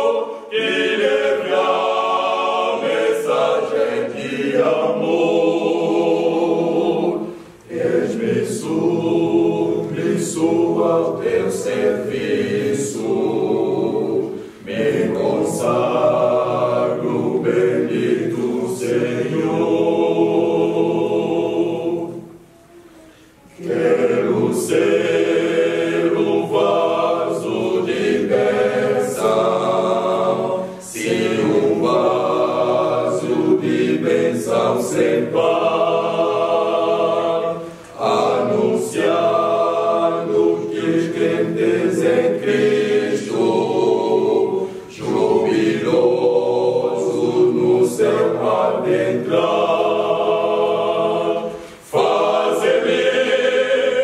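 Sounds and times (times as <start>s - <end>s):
male choir singing unaccompanied: 0.0s - 22.5s, 23.5s - 54.0s.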